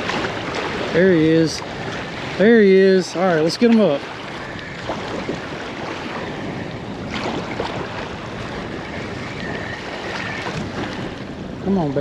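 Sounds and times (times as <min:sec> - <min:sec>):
waves washing against seawall: 0:00.0 - 0:12.0
wind on microphone: 0:00.0 - 0:12.0.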